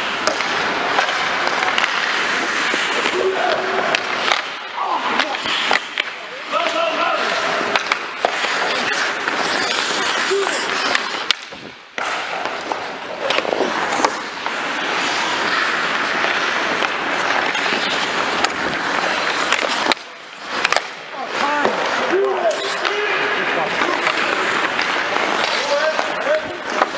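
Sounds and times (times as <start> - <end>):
hockey sticks clicking: 0.0 - 26.9
ice skates scraping on ice: 0.0 - 26.9.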